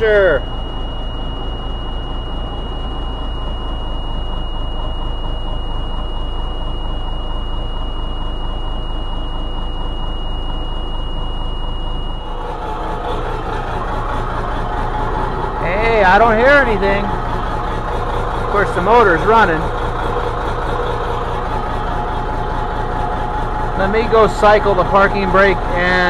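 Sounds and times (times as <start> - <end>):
high-pitched warning buzzer: 0.0 - 5.6, 7.9 - 26.0
diesel engine idling: 0.0 - 26.0.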